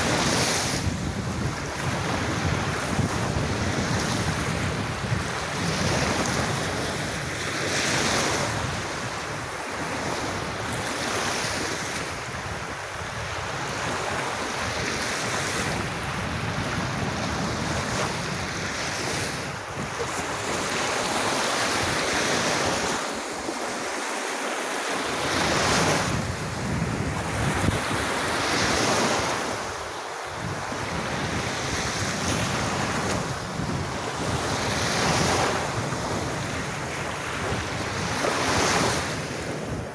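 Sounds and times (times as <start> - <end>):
wind buffeting microphone: 0.0 - 24.0, 25.0 - 39.9
sea waves washing onto beach: 0.0 - 39.9.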